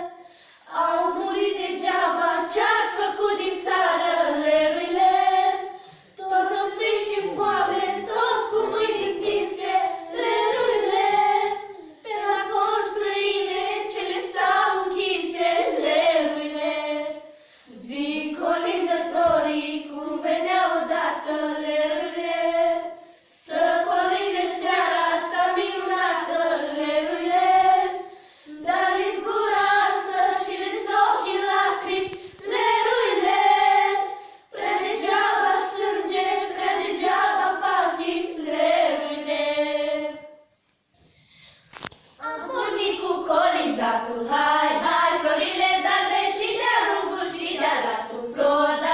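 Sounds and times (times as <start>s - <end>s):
girls singing unaccompanied: 0.0s - 40.6s, 42.1s - 48.9s.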